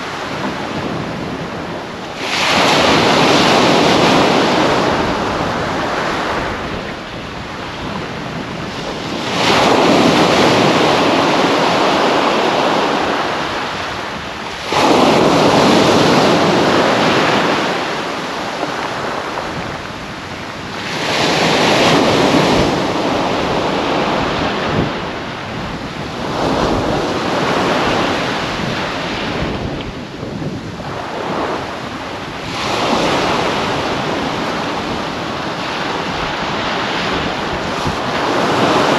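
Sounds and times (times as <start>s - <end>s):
waves breaking on beach: 0.0s - 38.9s
wind buffeting microphone: 0.0s - 38.9s.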